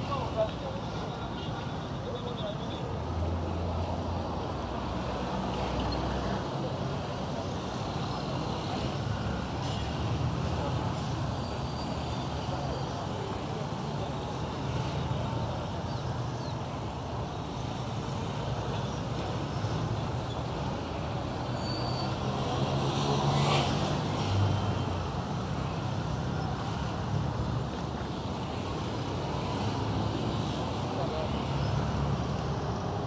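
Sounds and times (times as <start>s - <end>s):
busy road traffic: 0.0s - 33.0s.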